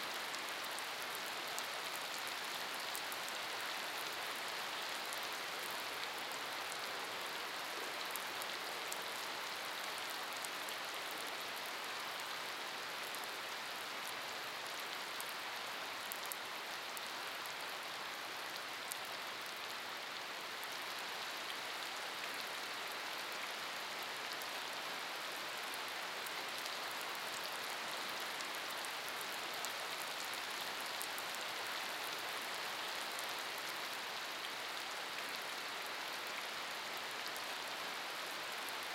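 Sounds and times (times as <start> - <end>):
rain on wet pavement: 0.0 - 38.9.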